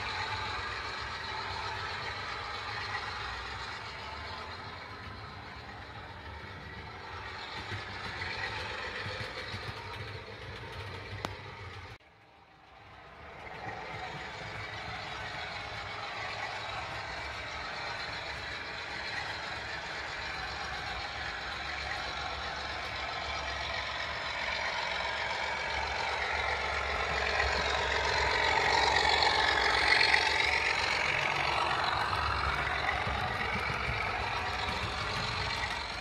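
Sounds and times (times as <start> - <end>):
model train motor whine: 0.0 - 12.0, 12.6 - 36.0
wheels rumbling on rails: 0.0 - 36.0.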